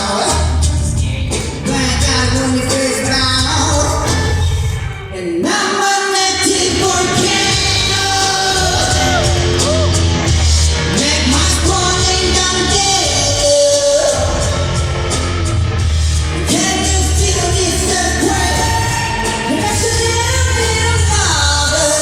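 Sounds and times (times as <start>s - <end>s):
person singing: 0.0s - 15.1s, 16.3s - 22.0s
amplified bass-heavy backing music: 0.0s - 22.0s.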